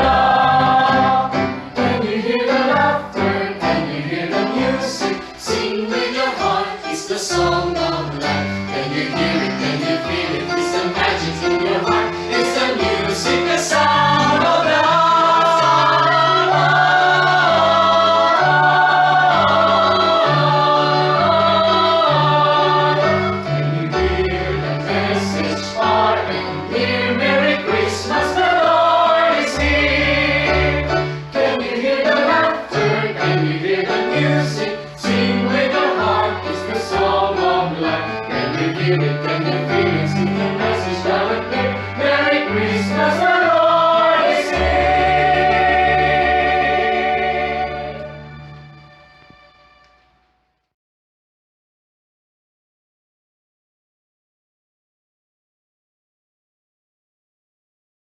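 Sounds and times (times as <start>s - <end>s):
choir singing in parts: 0.0s - 48.6s.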